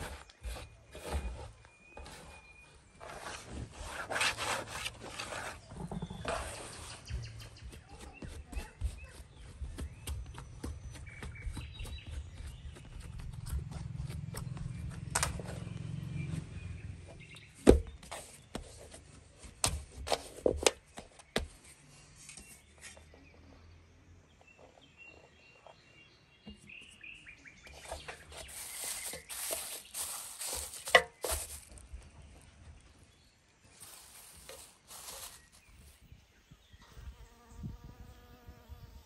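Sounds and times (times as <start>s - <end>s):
birds chirping: 0.0s - 19.2s, 20.8s - 39.0s.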